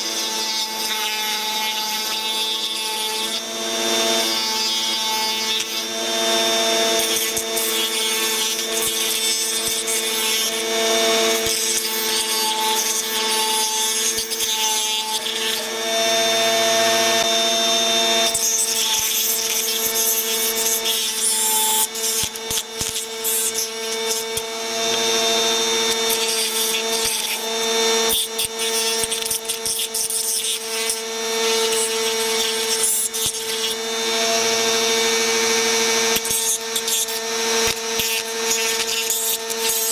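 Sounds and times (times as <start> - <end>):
rotary tool whining: 0.0 - 39.9.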